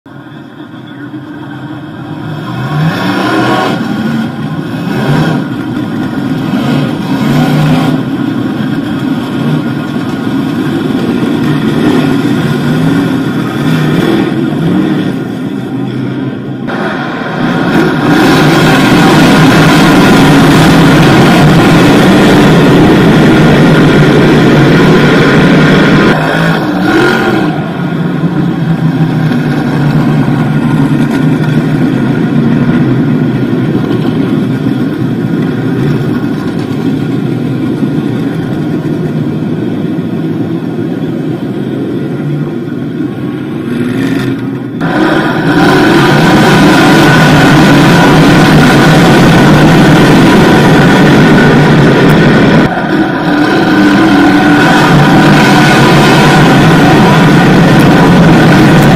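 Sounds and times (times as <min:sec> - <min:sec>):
race car engines at full throttle: 0:00.0 - 0:58.9.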